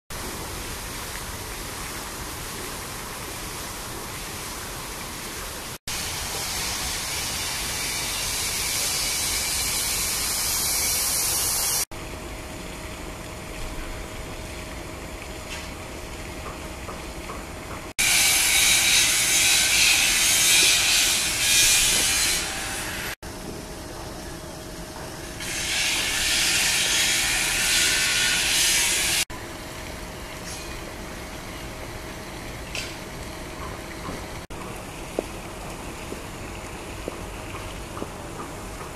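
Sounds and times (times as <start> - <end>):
steady hissing outdoor noise: 0.1 - 38.9.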